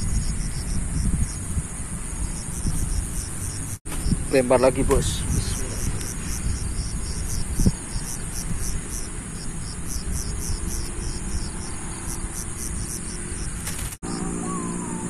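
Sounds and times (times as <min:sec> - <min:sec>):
high insect trill: 0:00.0 - 0:15.0
insects chirping: 0:00.0 - 0:15.0.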